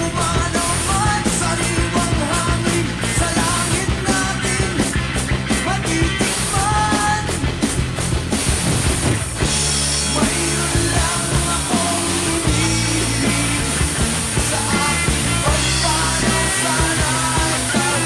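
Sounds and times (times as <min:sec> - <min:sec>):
bass and guitar: 0:00.0 - 0:18.0
drum kit playing along: 0:00.0 - 0:18.0
rock song with sung vocals: 0:00.0 - 0:18.0.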